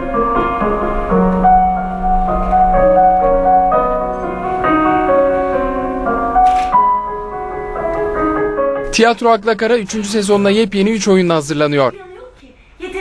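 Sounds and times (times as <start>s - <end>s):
slow piano music: 0.0s - 11.5s.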